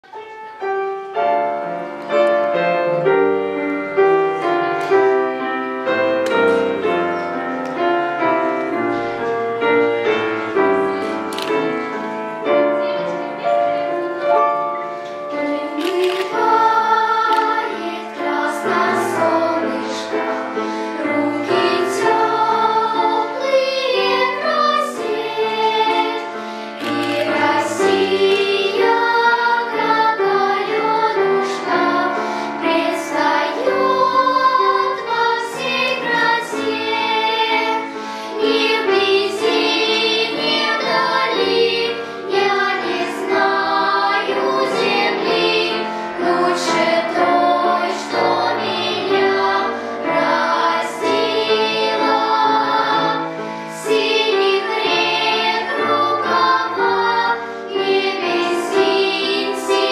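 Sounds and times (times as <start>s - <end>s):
piano accompaniment: 0.0s - 59.9s.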